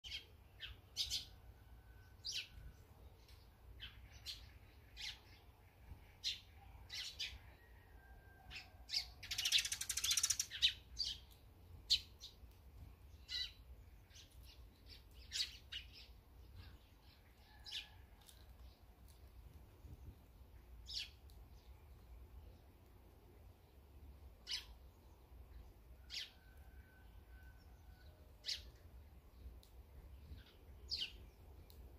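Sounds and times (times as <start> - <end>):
small songbirds chirping: 0.0 - 31.9.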